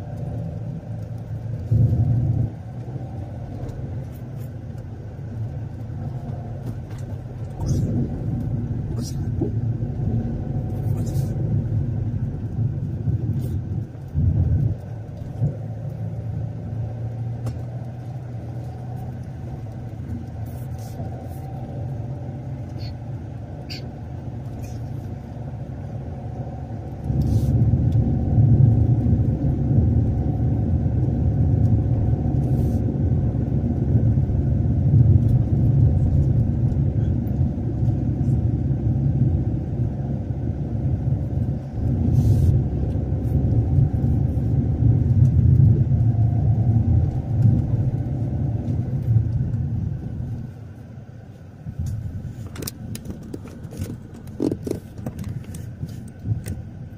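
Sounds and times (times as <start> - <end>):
vehicle engine rumbling: 0.0 - 56.9.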